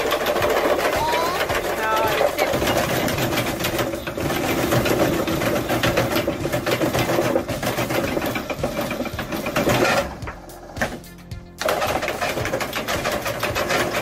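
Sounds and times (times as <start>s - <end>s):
chopping strokes clatter: 0.0s - 14.0s.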